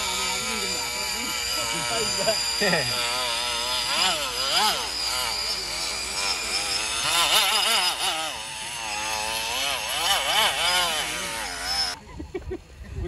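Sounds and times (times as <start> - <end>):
rc truck motor whining: 0.0 - 12.0.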